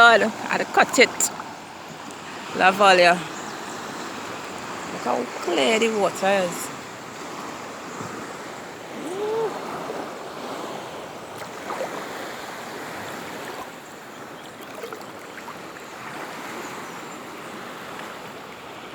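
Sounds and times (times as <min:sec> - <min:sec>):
small waves washing: 0:00.0 - 0:18.9.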